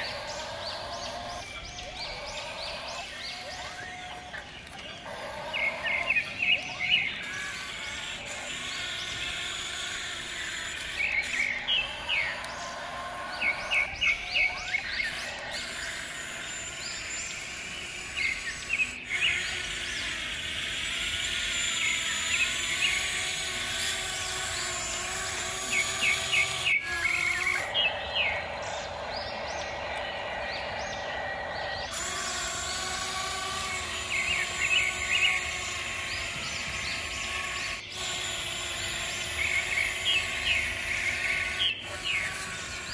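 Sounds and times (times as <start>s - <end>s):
small electric motors whining: 0.0s - 42.9s.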